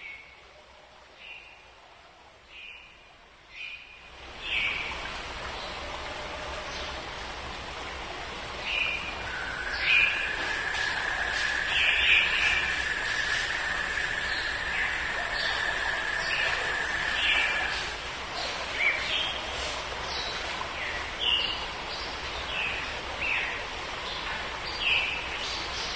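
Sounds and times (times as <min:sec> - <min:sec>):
background hiss: 0:00.0 - 0:25.9.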